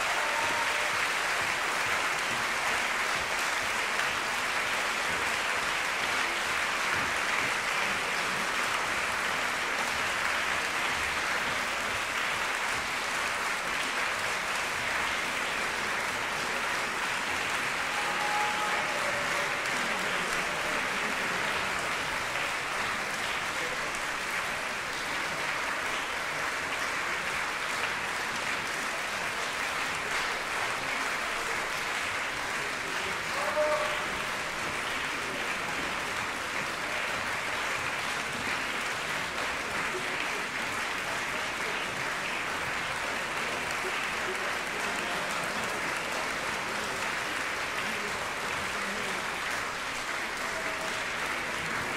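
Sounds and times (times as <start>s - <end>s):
audience applauding: 0.0s - 51.9s.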